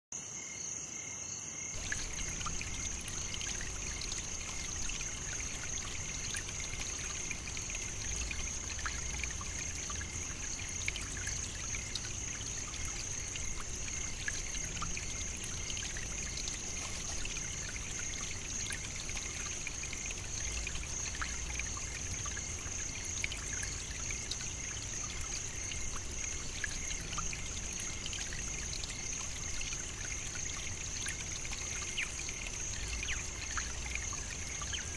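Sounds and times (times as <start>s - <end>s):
insects trilling: 0.3s - 34.9s
running water trickling: 1.7s - 34.9s.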